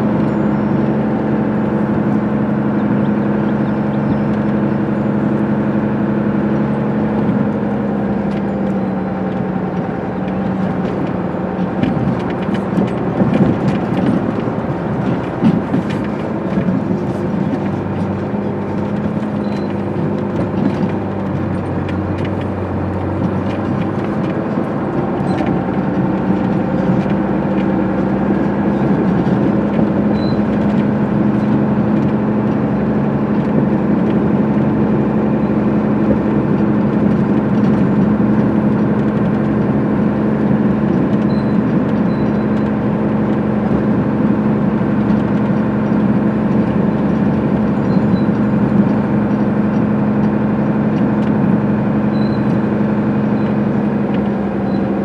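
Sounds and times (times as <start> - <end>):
off-road vehicle engine droning: 0.0 - 55.0
vehicle rattles and clicks: 0.0 - 55.0.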